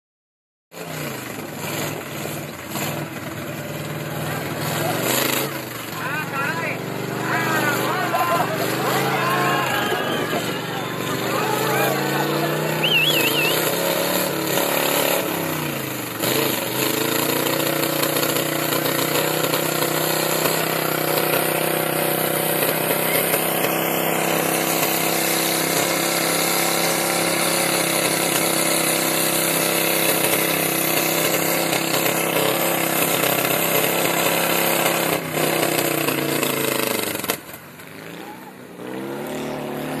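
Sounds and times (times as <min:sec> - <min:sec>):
buggy engine revving hard: 0:00.7 - 0:40.0.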